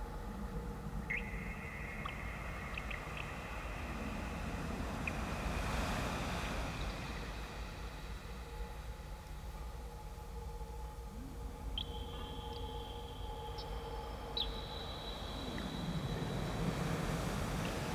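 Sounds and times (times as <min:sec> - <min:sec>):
ambient electronic drone music: 0:00.0 - 0:17.9.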